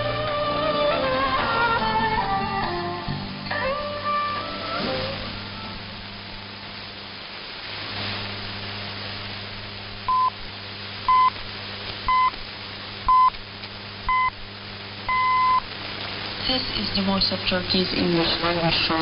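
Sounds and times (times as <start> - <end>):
radio static hiss and hum: 0.0 - 19.0.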